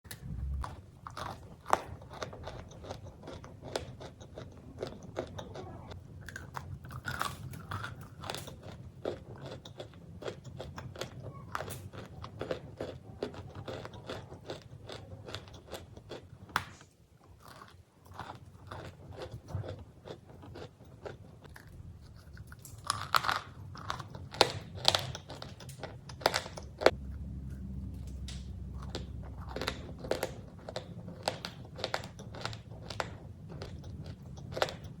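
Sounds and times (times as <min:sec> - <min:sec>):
crunchy cookies being chewed: 0:00.6 - 0:35.0.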